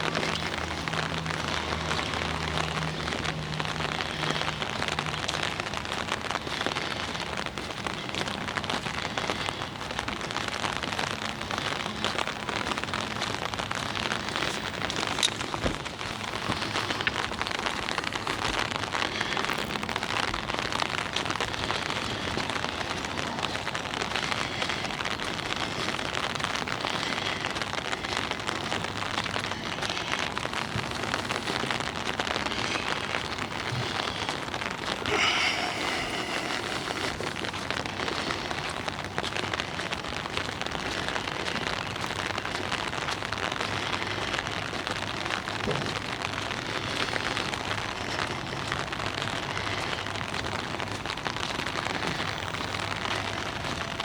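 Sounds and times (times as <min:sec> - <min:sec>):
rain pattering on umbrella: 0:00.0 - 0:54.0.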